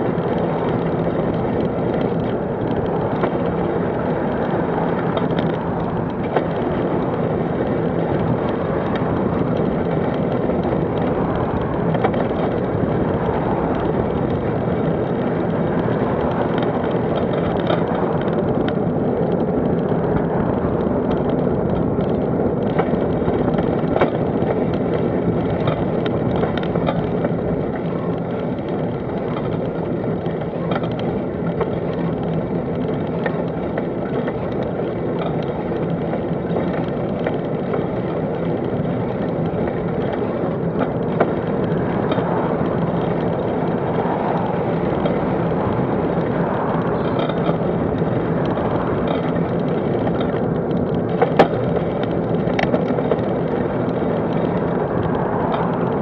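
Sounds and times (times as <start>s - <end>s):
oncoming cars passing: 0.0s - 56.0s
road noise: 0.0s - 56.0s
wind rumble: 0.0s - 56.0s.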